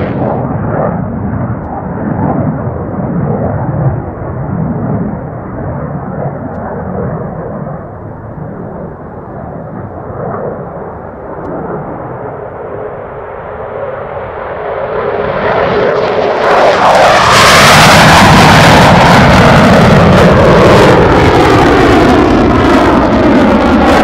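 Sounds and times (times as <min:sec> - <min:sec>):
jet flyby roar: 0:00.0 - 0:24.0.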